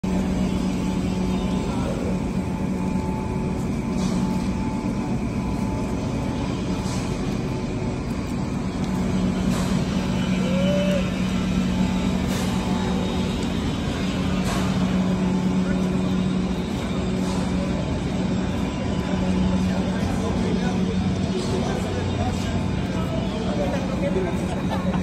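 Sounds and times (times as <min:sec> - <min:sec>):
industrial machinery drone: 0:00.0 - 0:25.0.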